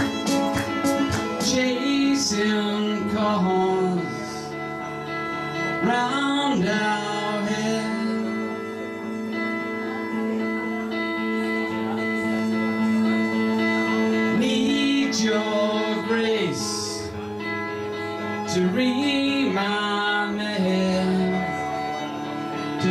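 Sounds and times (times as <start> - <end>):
strummed guitar: 0.0 - 22.9
violin sliding melody: 0.0 - 22.9.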